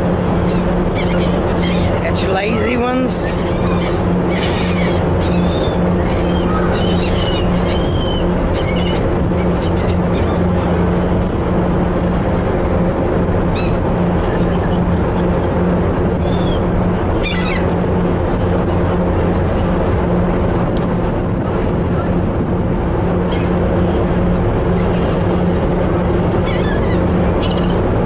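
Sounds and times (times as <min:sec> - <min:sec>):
seagulls calling: 0:00.0 - 0:20.8, 0:22.9 - 0:28.0
ferry engine drone: 0:00.0 - 0:28.0.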